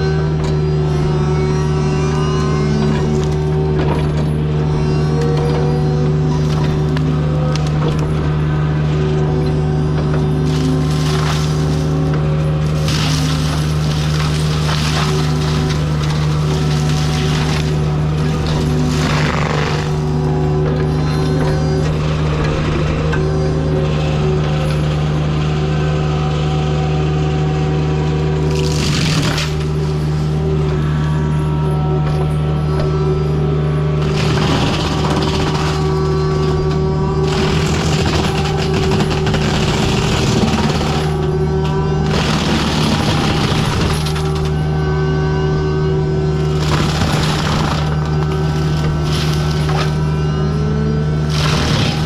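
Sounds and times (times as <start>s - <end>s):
cutting drum grinding wood: 0.0s - 52.0s
diesel engine running under load: 0.0s - 52.0s.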